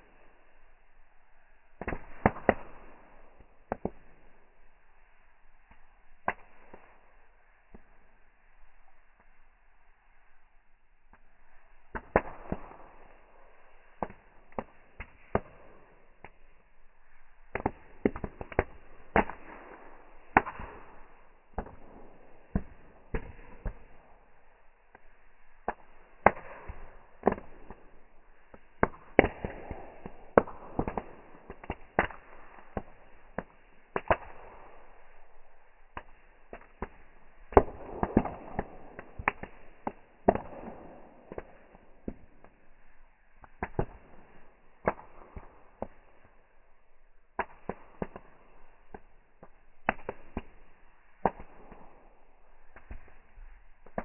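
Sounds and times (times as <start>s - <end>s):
burning wood crackling: 0.0s - 54.0s
faint hiss of flames: 0.0s - 54.0s.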